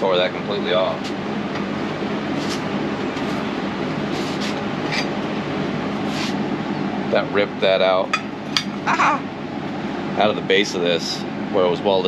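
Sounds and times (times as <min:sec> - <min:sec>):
mechanical hum and rushing: 0:00.0 - 0:12.0.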